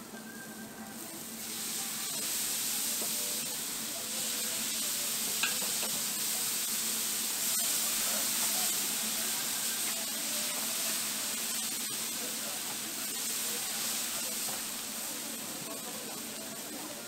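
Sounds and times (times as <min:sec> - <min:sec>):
squid sizzling on a griddle: 0:00.5 - 0:17.0.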